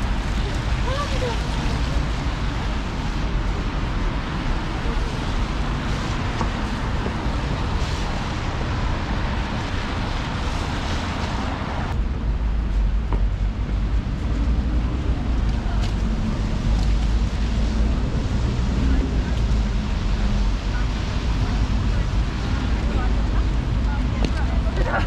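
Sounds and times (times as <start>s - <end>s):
tyres hissing on wet road: 0.0s - 12.0s, 13.7s - 25.0s
low traffic rumble: 0.0s - 25.0s.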